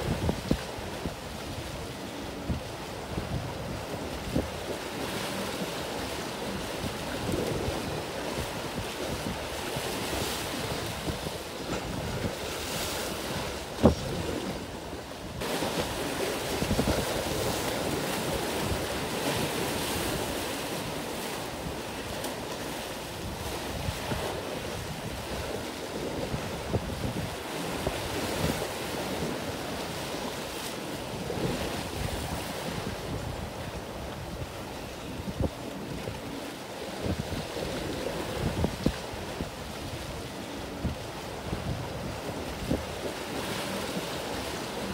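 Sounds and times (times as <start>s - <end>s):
choppy sea waves: 0.0s - 44.9s
wind buffeting microphone: 0.0s - 44.9s.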